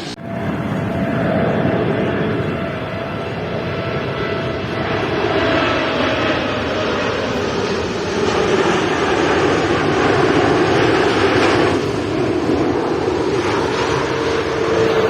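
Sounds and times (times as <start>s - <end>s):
jet airliner passing overhead: 0.0s - 15.0s.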